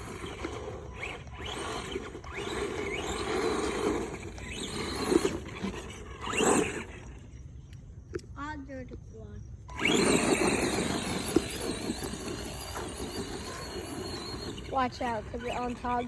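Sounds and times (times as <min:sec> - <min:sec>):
rc car motor whining: 0:00.0 - 0:07.4, 0:09.6 - 0:16.0
tyres rasping over ground: 0:00.0 - 0:08.4, 0:09.6 - 0:16.0.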